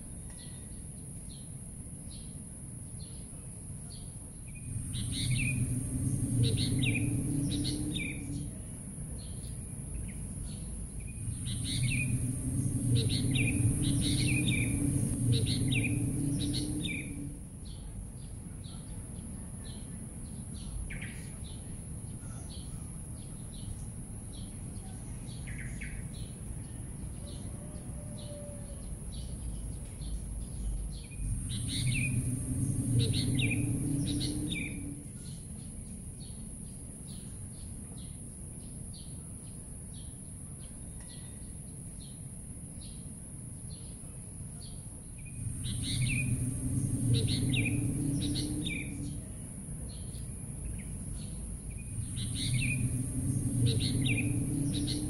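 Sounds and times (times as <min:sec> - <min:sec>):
low steady rumble: 0:00.0 - 0:40.8, 0:41.5 - 0:55.0
small birds chirping: 0:03.0 - 0:27.5, 0:28.8 - 0:42.2, 0:43.7 - 0:55.0.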